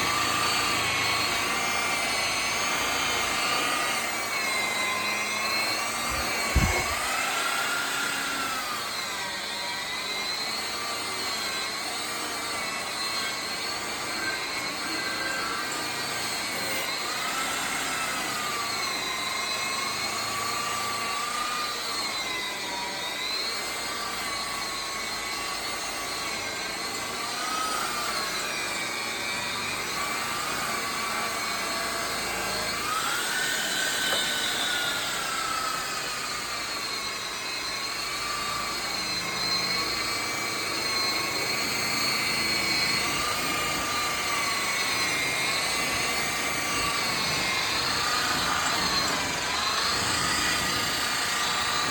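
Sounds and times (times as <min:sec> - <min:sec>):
electric polisher motor whining: 0:00.0 - 0:51.9.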